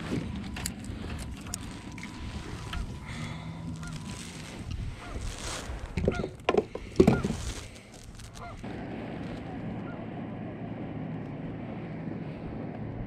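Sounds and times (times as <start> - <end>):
steady low rush: 0.0 - 13.0.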